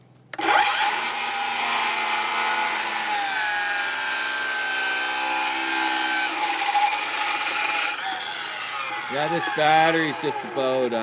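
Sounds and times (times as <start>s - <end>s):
power saw cutting wood: 0.4s - 11.0s.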